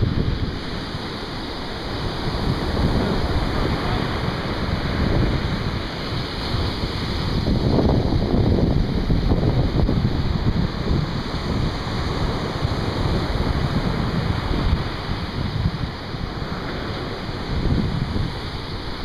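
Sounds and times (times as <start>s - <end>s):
waves breaking on beach: 0.0s - 19.0s
wind buffeting microphone: 0.0s - 19.0s.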